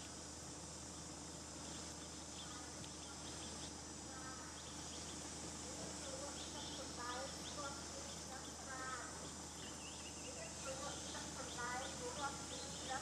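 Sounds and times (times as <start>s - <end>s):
insects buzzing: 0.0s - 13.0s
faint high chirps: 1.6s - 13.0s.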